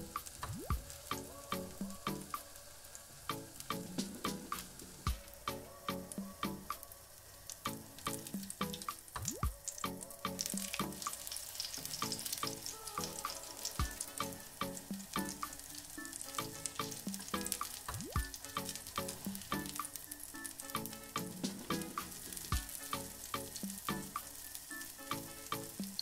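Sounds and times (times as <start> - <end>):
background music with beat: 0.0 - 2.6, 3.2 - 26.0
patties sizzling in hot oil: 0.0 - 26.0.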